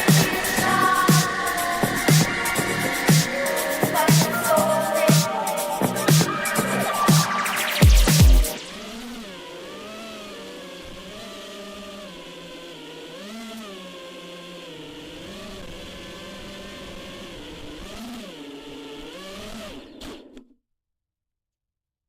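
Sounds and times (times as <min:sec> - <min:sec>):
quadcopter motors whining: 0:00.0 - 0:20.5.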